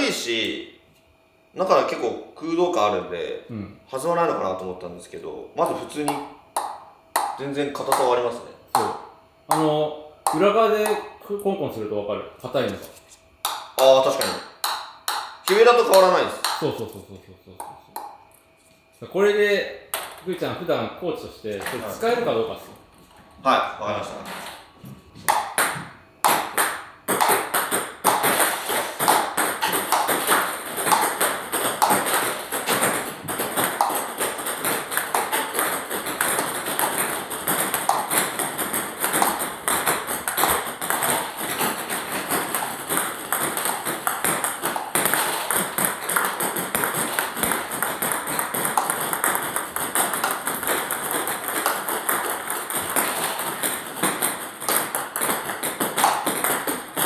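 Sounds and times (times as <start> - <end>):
ping-pong balls clicking and bouncing: 5.6 - 11.5, 12.7 - 18.5, 19.8 - 20.7, 21.5 - 23.2, 24.2 - 57.0.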